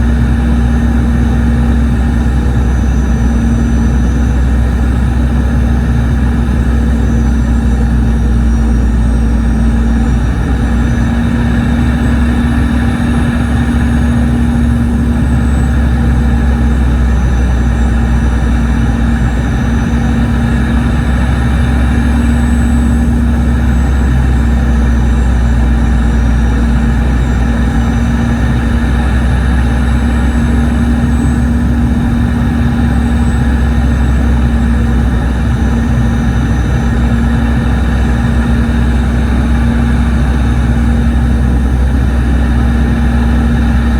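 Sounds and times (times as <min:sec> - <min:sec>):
jet engines heard from cabin: 0:00.0 - 0:43.9.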